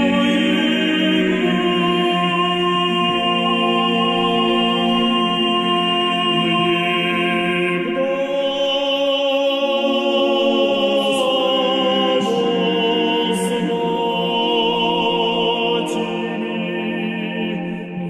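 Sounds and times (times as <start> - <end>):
voices singing a slow chant: 0.0 - 18.0.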